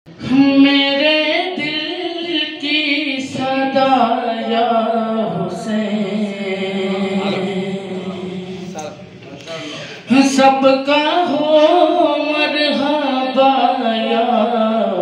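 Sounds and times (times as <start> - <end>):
young man singing unaccompanied: 0.2 - 8.6, 10.0 - 15.0.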